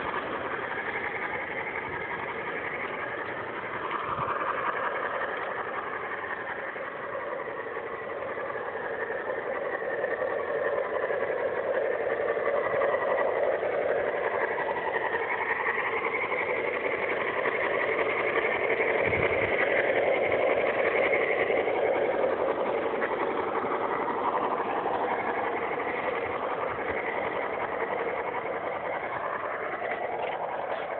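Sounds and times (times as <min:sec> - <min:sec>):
model steam locomotive clattering: 0:00.0 - 0:30.9.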